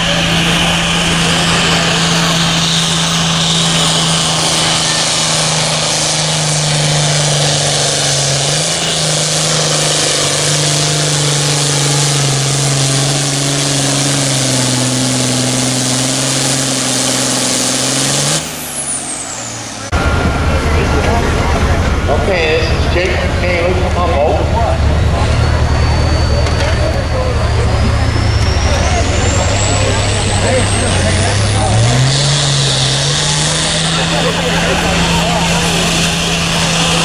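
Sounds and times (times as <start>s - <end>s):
high whine winding down: 0.0s - 37.0s
tractor engine running hard: 0.0s - 37.0s.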